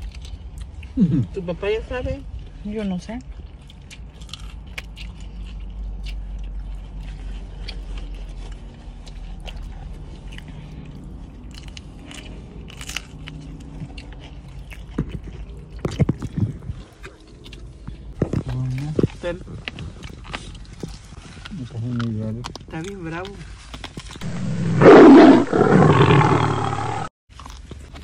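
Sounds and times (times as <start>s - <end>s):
chewing and biting food: 0.0s - 1.0s, 2.2s - 26.6s, 27.3s - 28.0s.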